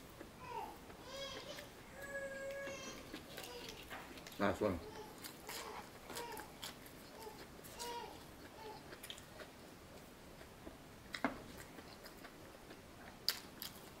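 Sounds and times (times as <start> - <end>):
person chewing fried chicken: 0.1 - 14.0.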